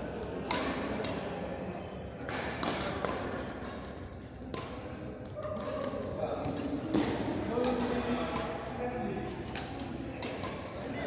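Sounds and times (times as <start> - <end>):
badminton rackets hitting shuttlecock: 0.3 - 11.0.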